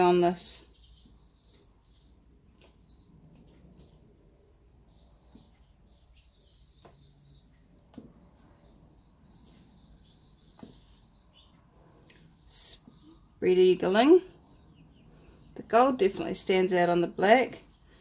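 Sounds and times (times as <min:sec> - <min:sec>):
faint birdsong chirping: 0:00.0 - 0:18.0.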